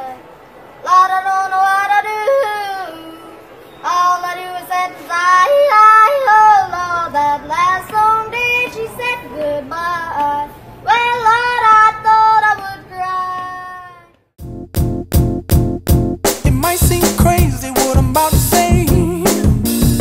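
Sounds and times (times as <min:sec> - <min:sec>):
high solo voice singing: 0:00.8 - 0:14.0, 0:16.5 - 0:20.0.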